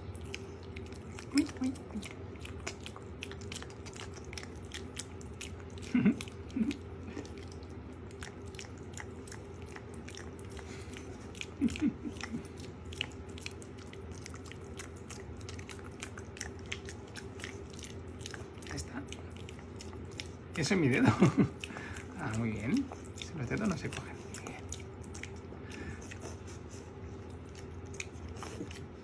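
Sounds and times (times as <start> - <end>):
piglet chewing clicks: 0.1 - 26.4, 27.2 - 29.0.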